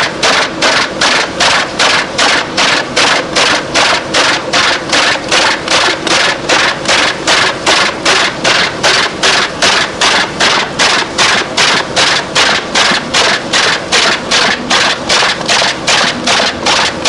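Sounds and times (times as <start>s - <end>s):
machine running steadily: 0.0s - 17.0s
wood chipper chopping log: 0.0s - 17.0s.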